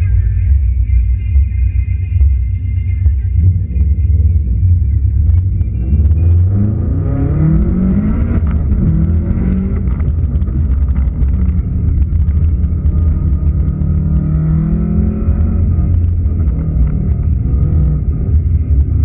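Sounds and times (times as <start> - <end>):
steady low rumble: 0.0 - 19.0
car engine accelerating hard: 3.4 - 19.0.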